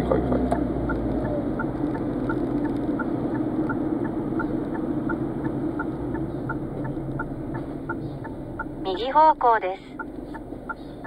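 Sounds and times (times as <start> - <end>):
engine and road hum: 0.0 - 11.0
turn signal ticking: 0.0 - 11.0.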